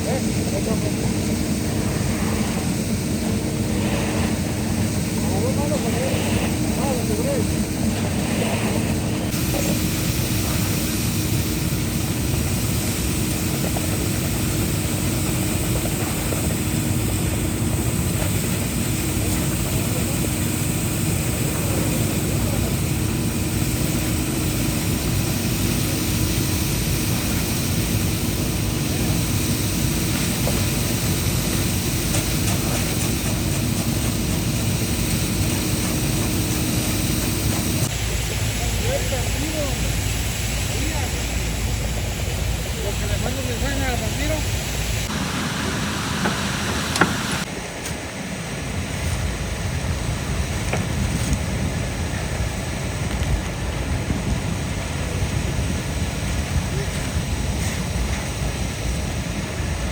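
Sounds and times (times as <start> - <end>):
heavy engine humming: 0.0 - 59.9.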